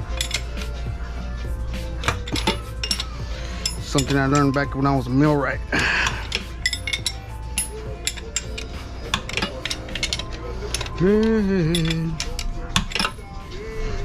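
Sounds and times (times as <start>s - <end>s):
metal hardware clinking: 0.0s - 0.8s, 2.0s - 5.2s, 6.0s - 13.4s.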